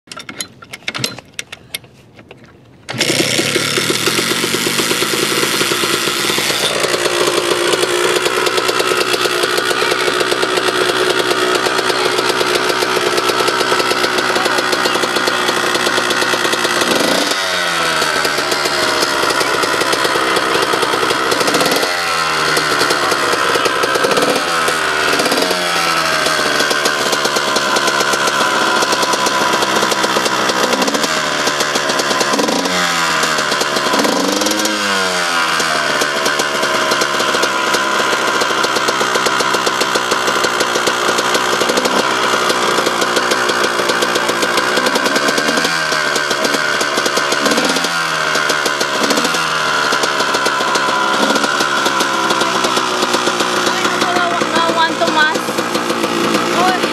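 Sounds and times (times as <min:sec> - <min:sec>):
dirt bike engine revving: 0:02.9 - 0:56.9.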